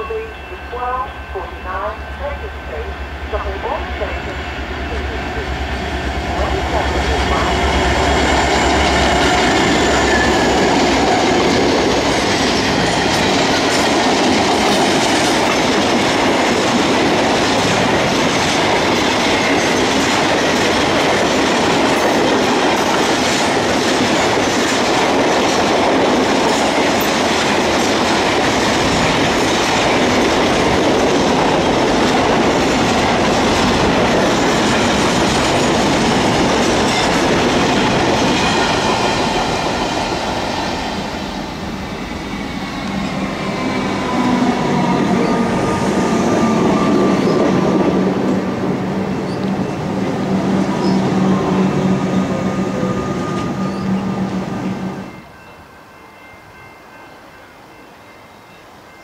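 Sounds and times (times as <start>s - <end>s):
train wheels rumbling on rail: 0.0s - 55.3s.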